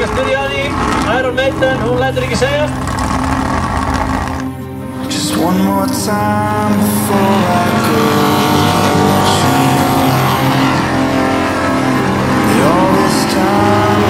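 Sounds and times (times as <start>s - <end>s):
buggy engine at high revs: 0.0s - 14.0s.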